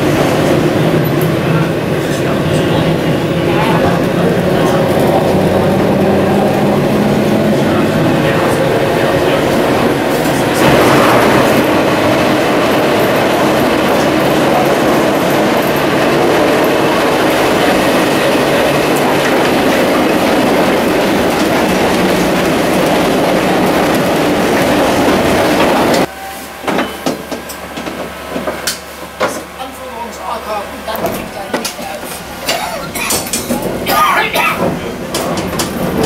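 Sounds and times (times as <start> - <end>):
tram wheels rolling on rails: 0.0 - 36.0.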